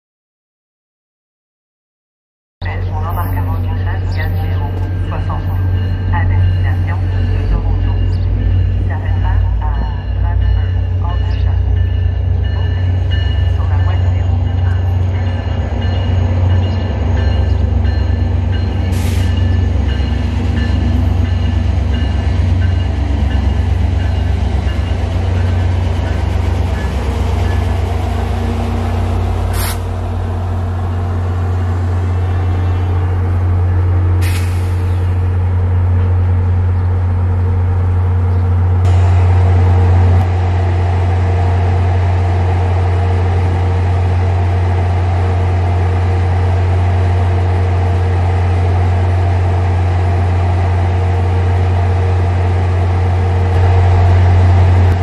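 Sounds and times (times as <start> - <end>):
diesel locomotive rumbling: 2.6 - 55.0.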